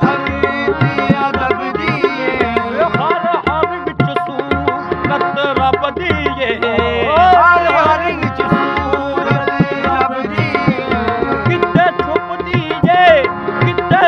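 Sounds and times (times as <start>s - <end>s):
tabla strokes: 0.0s - 14.0s.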